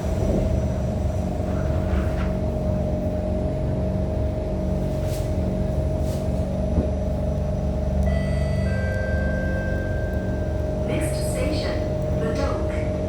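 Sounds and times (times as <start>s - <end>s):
low rumble: 0.0s - 13.0s
train motor whine: 0.0s - 13.0s.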